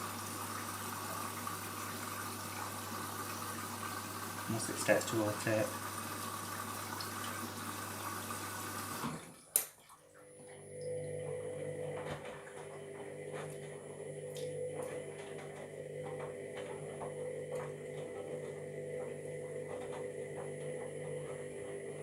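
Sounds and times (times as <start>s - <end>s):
washing machine drum motor hum: 0.0s - 22.0s
washing machine filling with water: 0.0s - 22.0s.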